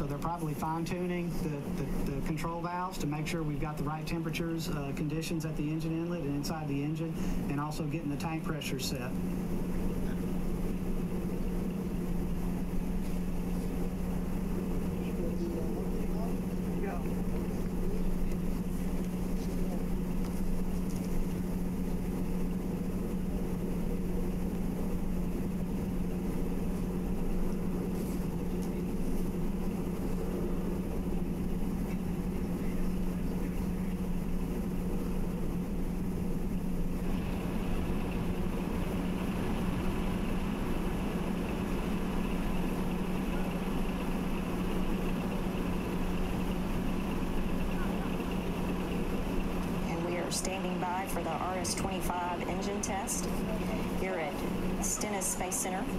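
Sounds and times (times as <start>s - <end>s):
steady hum and rushing noise: 0.0s - 55.9s.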